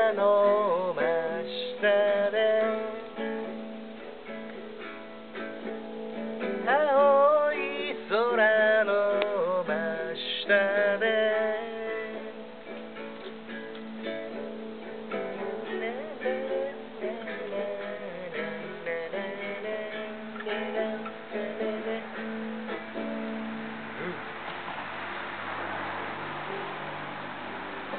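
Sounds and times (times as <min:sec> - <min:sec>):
guitalele strummed and picked: 0:00.0 - 0:27.9.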